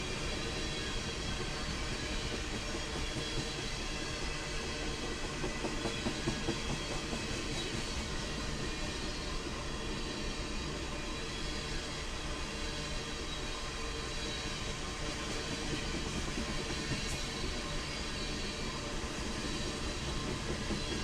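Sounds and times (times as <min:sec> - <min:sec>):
train wheels clattering on rail: 0:00.0 - 0:09.9, 0:13.8 - 0:21.0.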